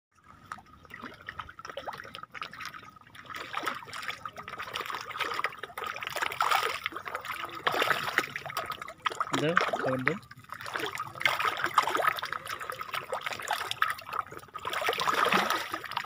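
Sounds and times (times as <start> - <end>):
fish splashing at water surface: 0.3 - 16.0.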